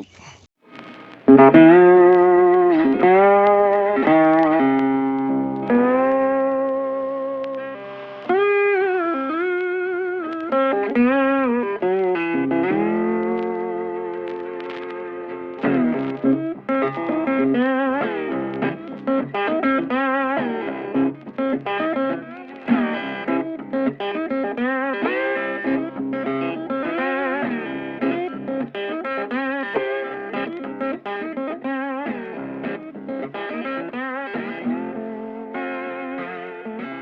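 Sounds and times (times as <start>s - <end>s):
electric guitar lead melody: 0.6s - 37.0s.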